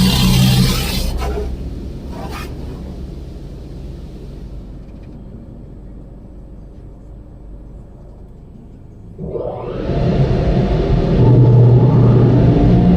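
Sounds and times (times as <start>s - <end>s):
car wash machinery rumbling: 0.0s - 12.9s.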